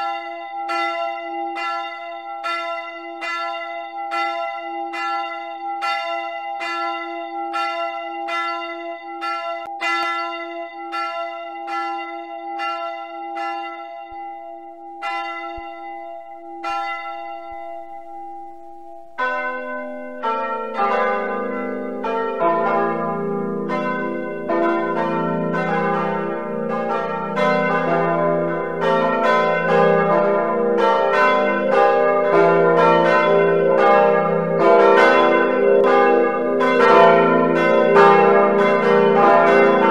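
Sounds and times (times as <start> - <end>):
church bells pealing: 0.0 - 39.9
single church bell striking: 0.0 - 39.9.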